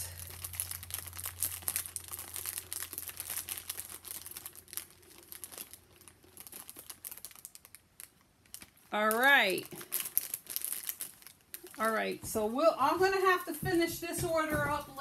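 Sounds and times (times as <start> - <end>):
packaging crinkling: 0.0 - 12.6.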